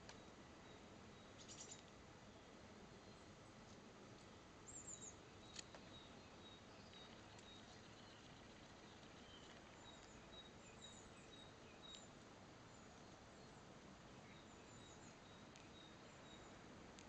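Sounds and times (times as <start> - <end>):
faint high bird chirps: 0.0 - 3.3, 4.6 - 16.6.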